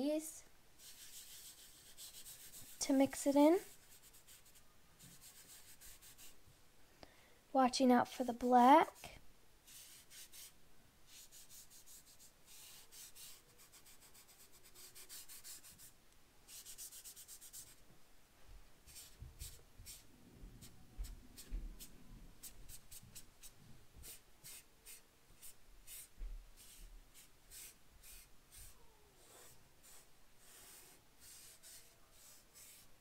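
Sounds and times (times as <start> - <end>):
chalk pastel scratching on paper: 0.8 - 6.4, 9.6 - 15.9, 16.5 - 17.8, 18.9 - 33.0.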